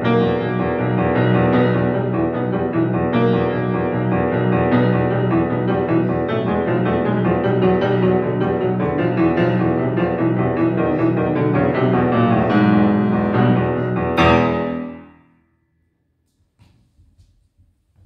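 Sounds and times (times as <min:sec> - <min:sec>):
grand piano playing: 0:00.0 - 0:15.2.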